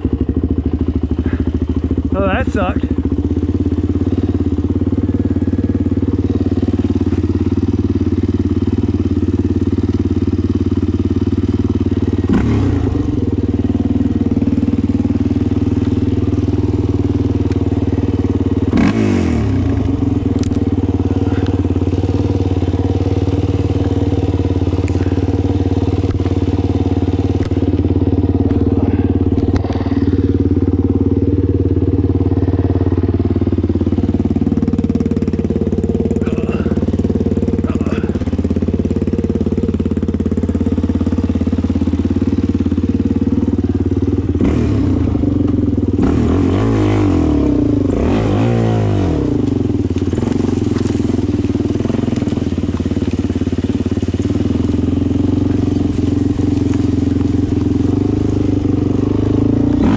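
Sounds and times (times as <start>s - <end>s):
quad engine running: 0.0s - 59.9s
engine revving: 1.0s - 59.9s.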